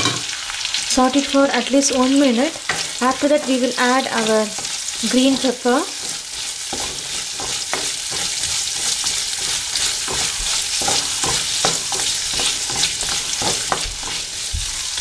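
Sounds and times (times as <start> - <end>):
vegetables sizzling in hot oil: 0.0 - 15.0
spatula scraping metal pan: 2.6 - 15.0.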